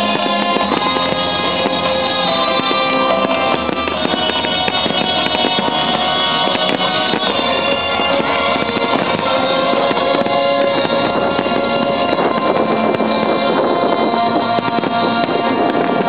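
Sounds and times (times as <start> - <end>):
fireworks bursting and crackling: 0.0 - 16.0
loud music: 0.0 - 16.0.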